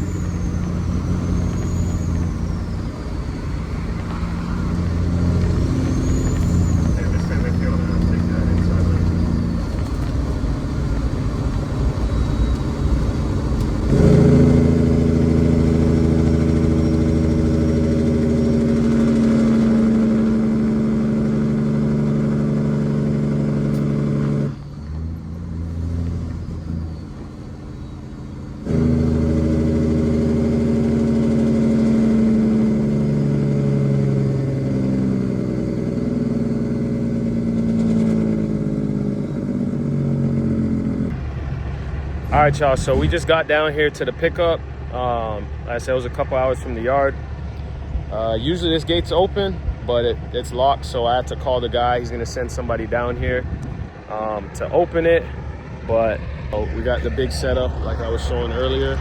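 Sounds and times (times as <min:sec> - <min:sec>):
truck diesel engine droning: 0:00.0 - 0:59.0.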